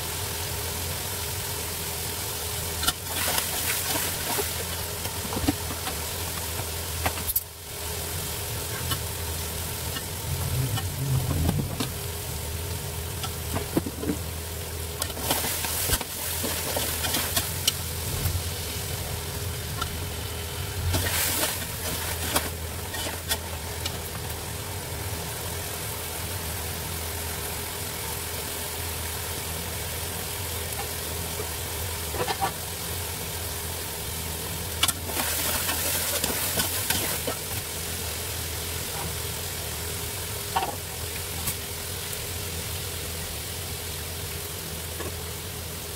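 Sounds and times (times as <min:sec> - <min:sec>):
gentle sizzle: 0:00.0 - 0:45.9
steady background hum: 0:00.0 - 0:45.9.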